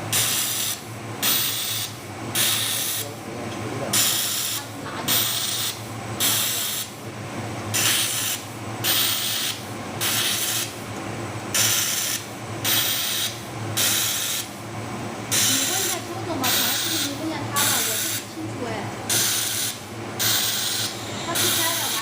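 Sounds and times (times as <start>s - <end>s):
laser welder hissing bursts: 0.0s - 3.2s, 3.9s - 7.0s, 7.7s - 10.8s, 11.5s - 14.6s, 15.3s - 18.3s, 19.1s - 22.0s
steady low hum: 0.0s - 22.0s.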